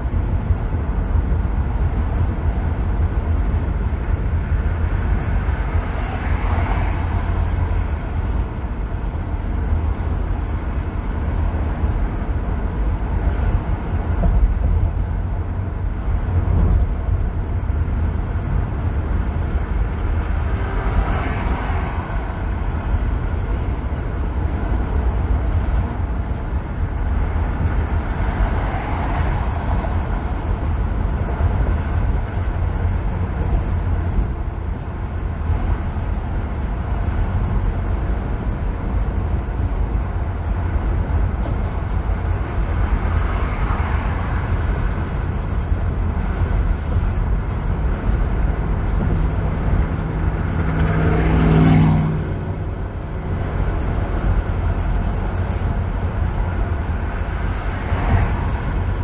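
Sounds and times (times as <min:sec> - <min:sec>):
tyre and engine rumble: 0:00.0 - 0:59.0.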